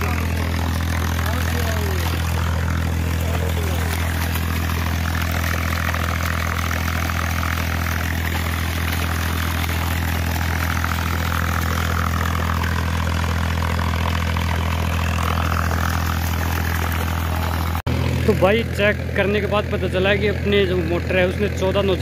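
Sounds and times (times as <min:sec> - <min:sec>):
water gushing and splashing: 0:00.0 - 0:18.3
engine humming: 0:00.0 - 0:22.0.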